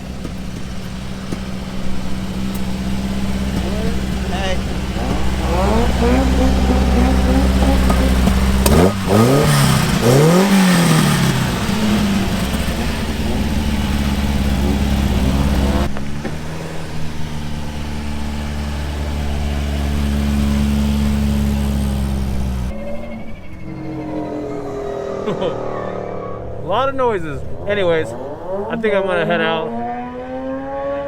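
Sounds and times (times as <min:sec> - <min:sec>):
car engines idling: 0:00.0 - 0:31.0
deep engine drone: 0:00.0 - 0:31.0
engine revving: 0:00.0 - 0:31.0.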